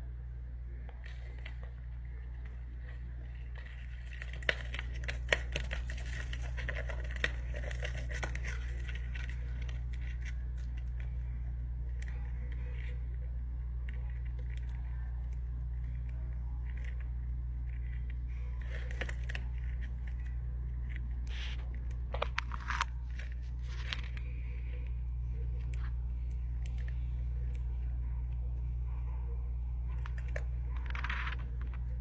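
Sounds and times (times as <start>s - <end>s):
steady low hum: 0.0s - 32.0s
faint clicks and crackles: 0.1s - 32.0s.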